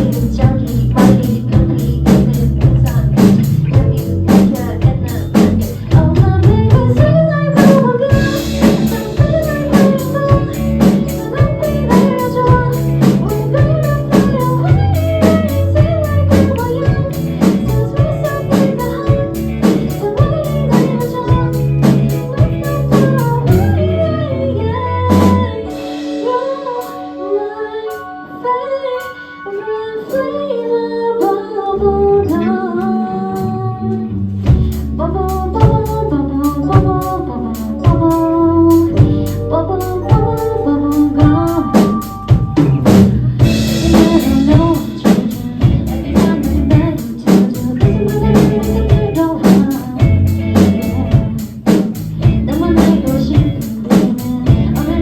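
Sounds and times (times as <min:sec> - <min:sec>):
drum kit beat: 0:00.0 - 0:23.9, 0:25.1 - 0:27.2, 0:34.5 - 0:55.0
live pop band: 0:00.0 - 0:55.0
woman singing: 0:00.0 - 0:55.0.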